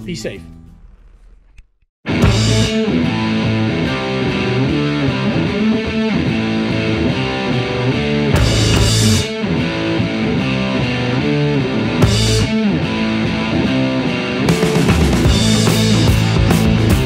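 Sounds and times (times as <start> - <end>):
rock music with distorted guitar: 2.0 - 17.0.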